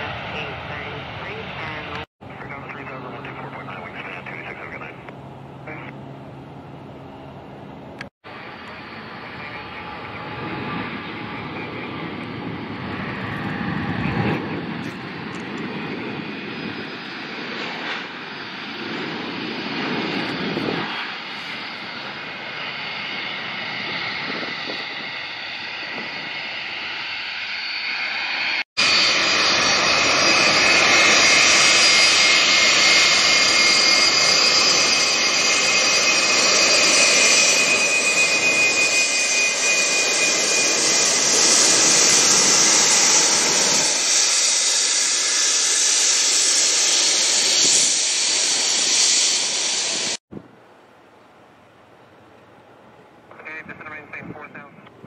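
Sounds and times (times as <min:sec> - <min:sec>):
jet engines at takeoff: 0:00.0 - 0:50.5, 0:51.7 - 0:55.0
jet engines rolling on runway: 0:00.0 - 0:55.0.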